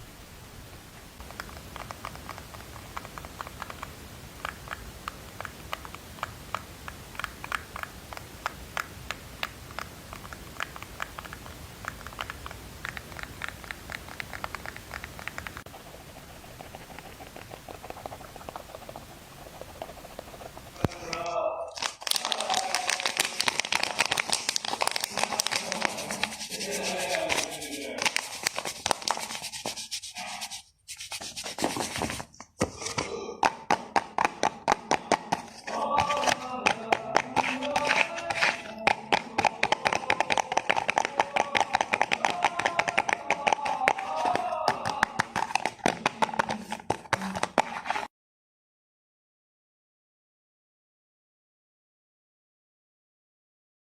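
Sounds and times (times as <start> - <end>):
crinkling and scratching: 0.9 - 33.1, 34.4 - 48.1.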